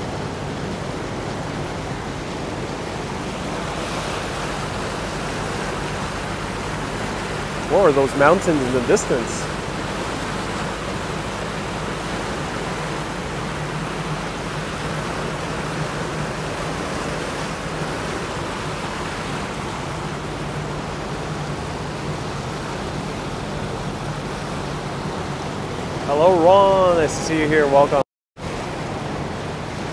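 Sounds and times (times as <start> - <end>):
boat engine droning: 0.0 - 29.9
rushing wind and water: 0.0 - 29.9.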